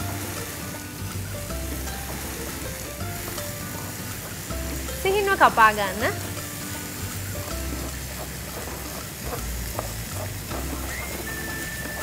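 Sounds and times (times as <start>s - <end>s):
background music with bass line: 0.0s - 12.0s
chicken wings sizzling in pan: 0.0s - 12.0s.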